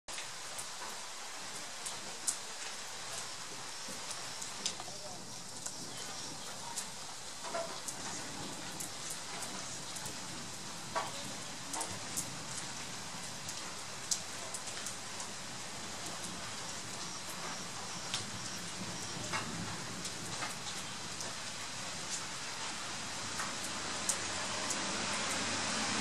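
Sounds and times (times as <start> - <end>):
steady rain patter: 0.1 - 26.0.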